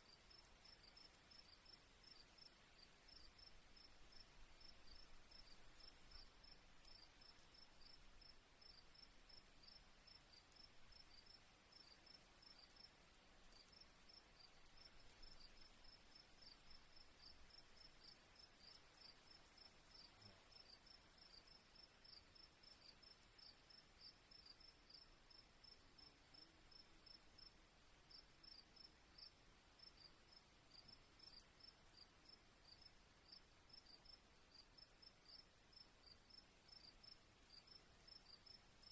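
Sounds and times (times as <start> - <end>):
crickets chirping: 0.1 - 38.9.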